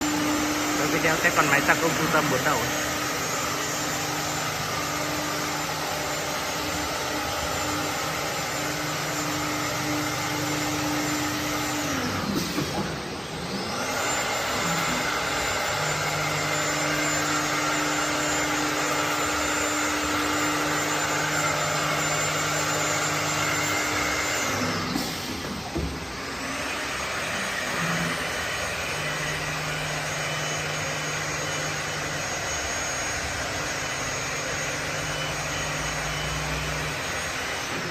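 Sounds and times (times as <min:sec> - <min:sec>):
machine noise: 0:00.0 - 0:37.9
router spindle whine: 0:00.0 - 0:37.9.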